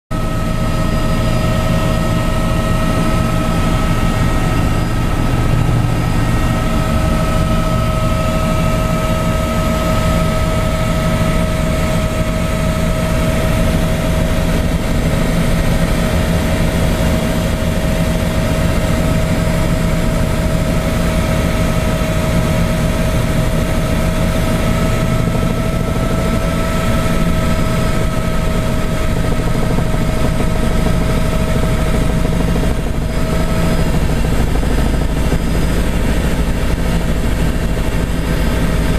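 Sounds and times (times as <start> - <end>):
helicopter engine and rotor drone: 0.1 - 38.9
high engine whine: 0.1 - 38.9.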